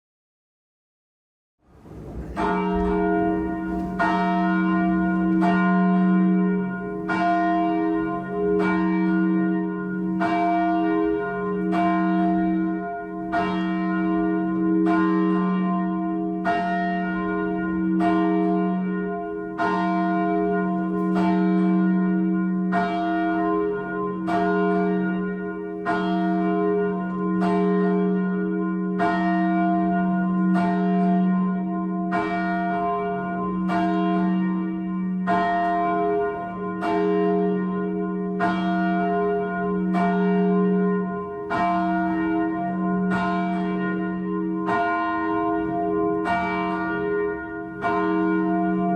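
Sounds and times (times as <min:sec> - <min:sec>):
church bell tolling: 0:01.8 - 0:48.9.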